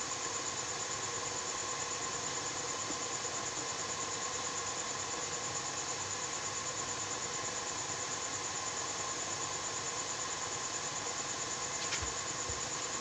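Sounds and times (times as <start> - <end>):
faint hum-like tones: 0.0 - 13.0
steady hiss: 0.0 - 13.0.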